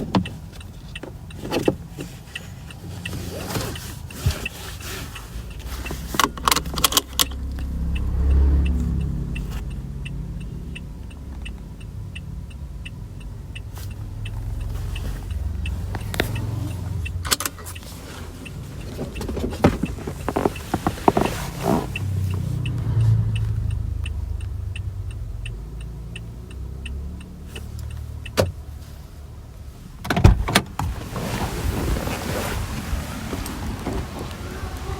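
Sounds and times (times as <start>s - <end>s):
turn signal ticking: 0.0s - 31.0s, 32.8s - 34.9s
car cabin rumble: 0.0s - 34.9s.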